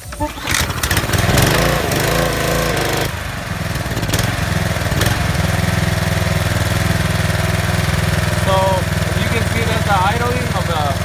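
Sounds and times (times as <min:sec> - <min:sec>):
pressure washer engine idling: 0:00.0 - 0:11.0.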